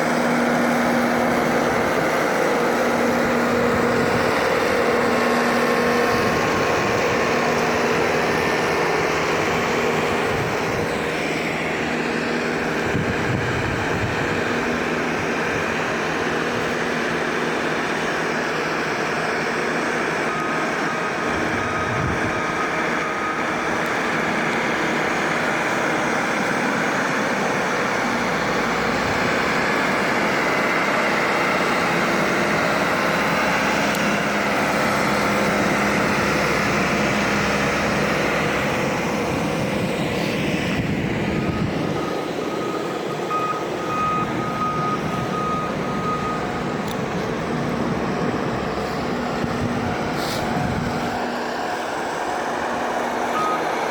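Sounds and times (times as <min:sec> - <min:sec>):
freight train rumbling: 0:00.0 - 0:53.9.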